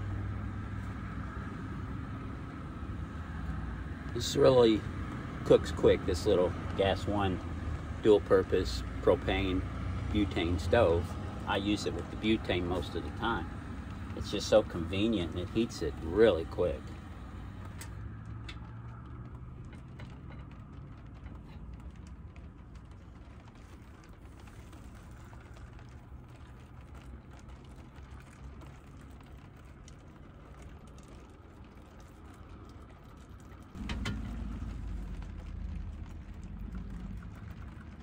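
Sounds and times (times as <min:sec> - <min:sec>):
hot water pouring: 0:00.0 - 0:38.0
low steady hum: 0:00.0 - 0:38.0.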